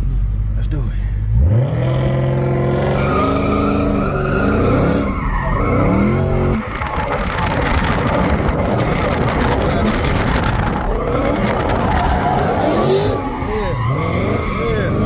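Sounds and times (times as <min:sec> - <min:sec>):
car engine revving hard: 0:01.4 - 0:15.0
tires skidding: 0:01.5 - 0:15.0.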